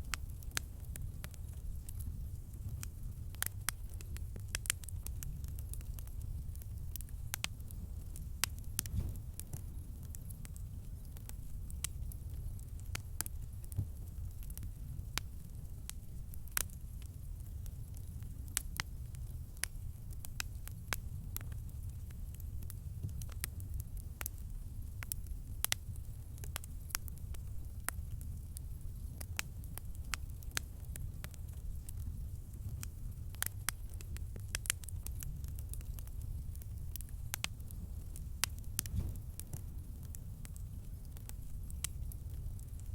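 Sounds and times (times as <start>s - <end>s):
campfire crackling: 0.0s - 42.9s
fire popping and snapping: 0.0s - 42.9s
low rumble of flames: 0.0s - 42.9s.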